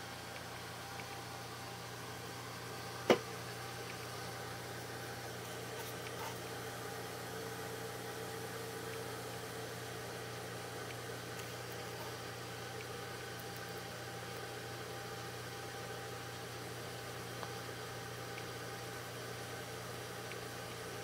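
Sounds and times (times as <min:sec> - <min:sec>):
machine-like hum and hiss: 0:00.0 - 0:21.0.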